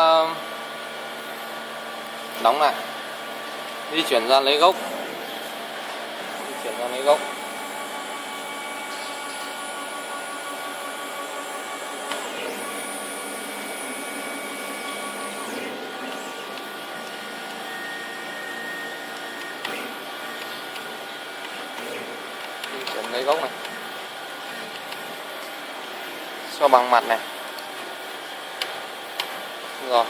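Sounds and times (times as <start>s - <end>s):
stepper motors whining: 2.3s - 30.0s.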